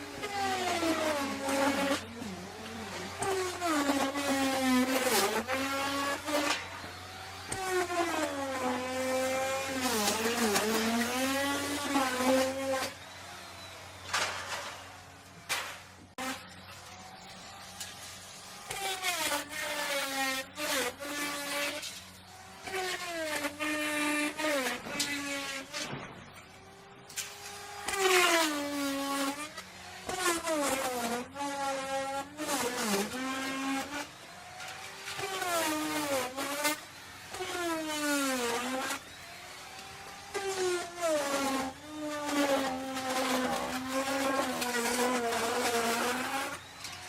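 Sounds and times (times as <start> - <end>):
wood router cutting wood: 0.0 - 47.0.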